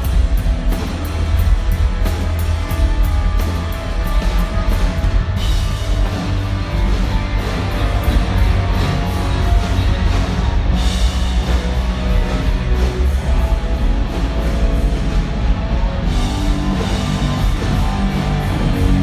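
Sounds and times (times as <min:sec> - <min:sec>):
bass: 0:00.0 - 0:19.0
drums: 0:00.0 - 0:19.0
electric guitar: 0:00.0 - 0:19.0.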